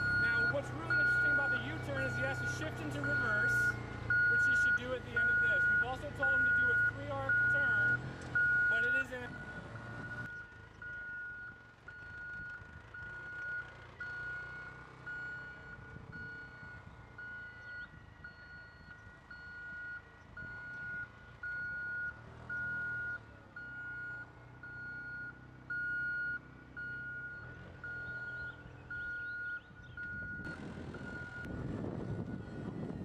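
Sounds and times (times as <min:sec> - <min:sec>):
vehicle engine running: 0:00.0 - 0:33.0
vehicle warning beeper: 0:00.0 - 0:33.0.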